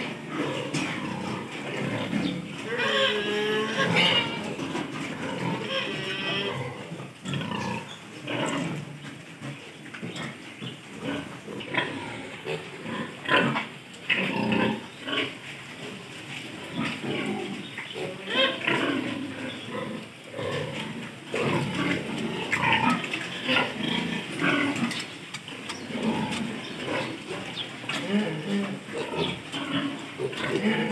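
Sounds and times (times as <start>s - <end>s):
piglets grunting and squealing: 0.0s - 16.0s, 16.6s - 25.1s, 25.8s - 30.9s.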